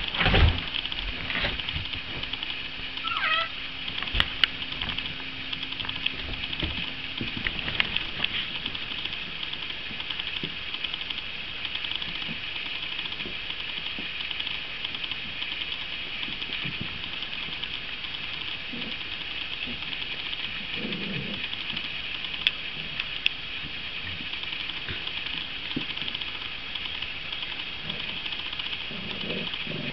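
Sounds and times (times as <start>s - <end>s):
steady high hiss: 0.0s - 29.9s.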